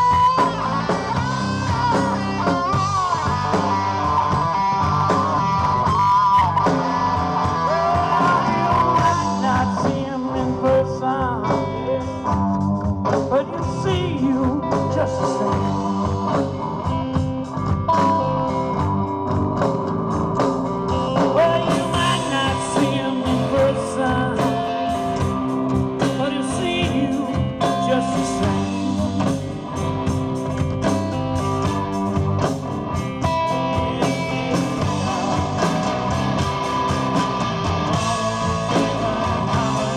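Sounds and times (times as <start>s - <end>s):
blues-rock band playing: 0.0s - 39.9s
lead guitar bending notes: 0.0s - 39.9s.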